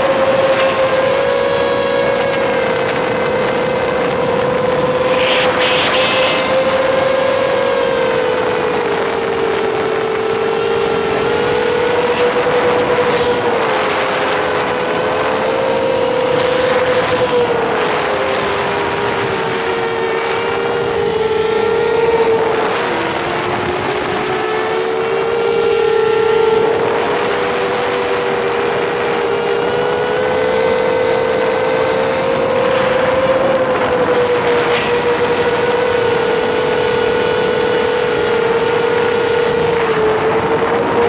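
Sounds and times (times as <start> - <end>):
drone propellers whining: 0.0 - 41.0
wind over microphone: 0.0 - 41.0.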